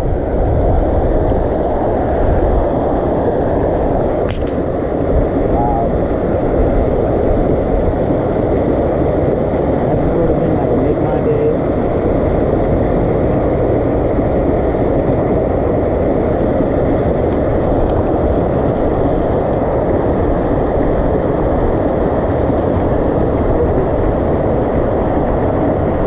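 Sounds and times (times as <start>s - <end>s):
steady low rushing noise: 0.0s - 26.0s.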